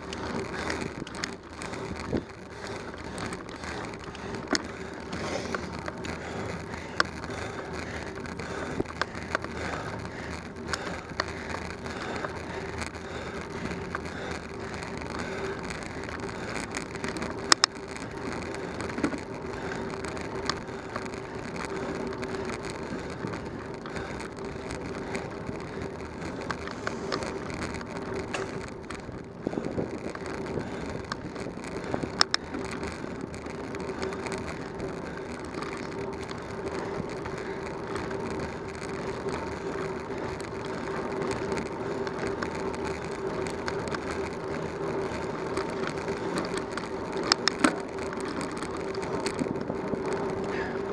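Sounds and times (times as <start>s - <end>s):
bicycle tyres rolling on pavement: 0.0s - 50.9s
wind noise: 0.0s - 50.9s.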